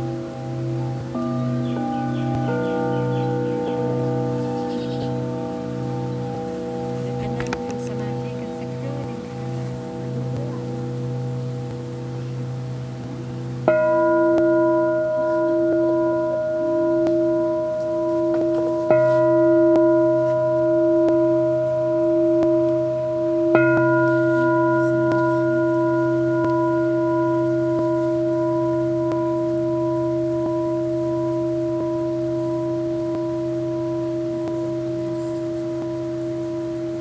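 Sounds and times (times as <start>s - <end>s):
crystal singing bowls ringing: 0.0s - 37.0s.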